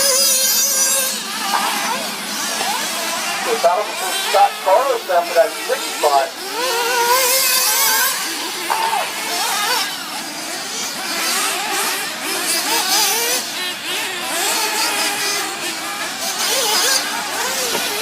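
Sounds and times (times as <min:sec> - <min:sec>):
rc buggy engines buzzing: 0:00.0 - 0:18.0.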